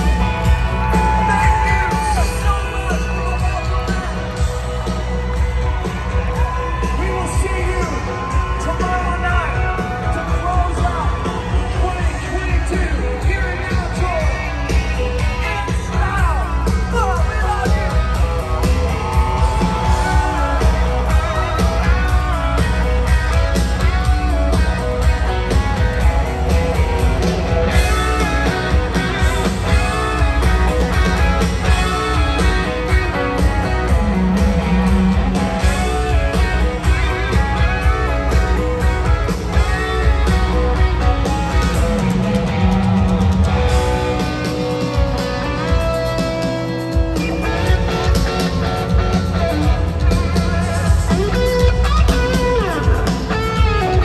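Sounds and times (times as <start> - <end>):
live country-rock band: 0.0 - 54.0.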